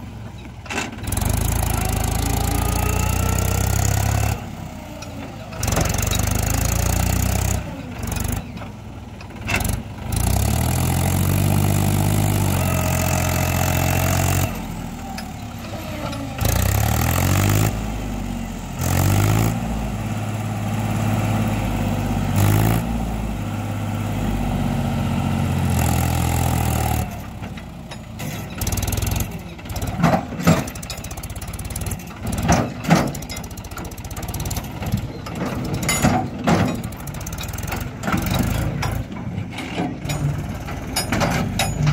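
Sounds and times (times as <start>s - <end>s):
tractor diesel engine revving: 0.0s - 41.9s.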